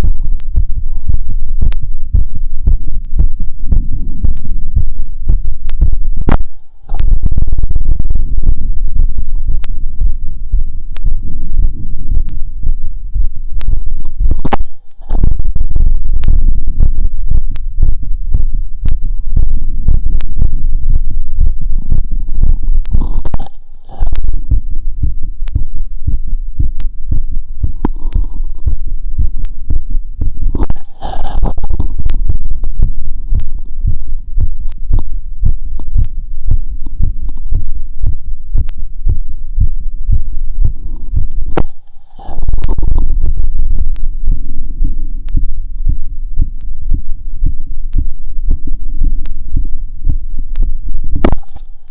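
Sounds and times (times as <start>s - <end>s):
heartbeat through stethoscope: 0.0s - 51.9s.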